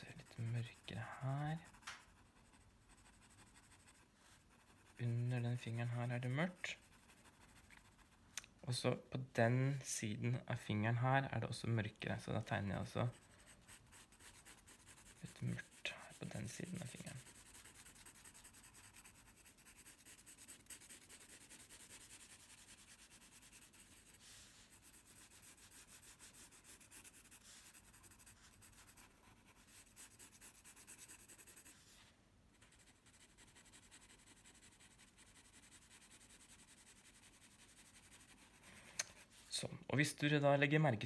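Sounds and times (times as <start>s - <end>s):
pencil scratching on paper: 0.0s - 8.2s, 12.1s - 39.6s.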